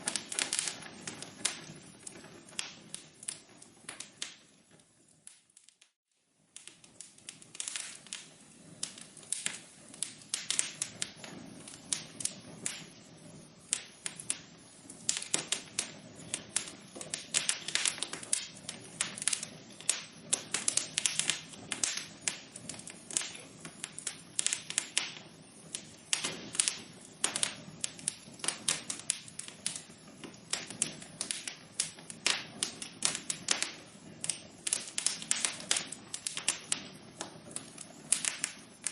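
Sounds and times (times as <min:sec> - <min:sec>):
low hiss of burning: 0:00.0 - 0:38.9
wood fire crackling: 0:00.0 - 0:38.9.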